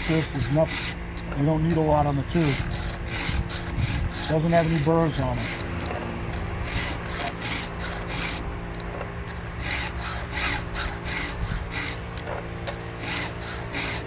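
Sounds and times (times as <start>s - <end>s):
file stroking chainsaw chain: 0.0s - 8.4s, 9.6s - 14.0s.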